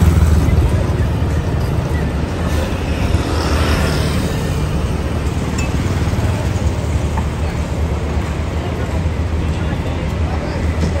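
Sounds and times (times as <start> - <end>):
diesel bus engines idling: 0.0 - 3.1, 4.3 - 11.0.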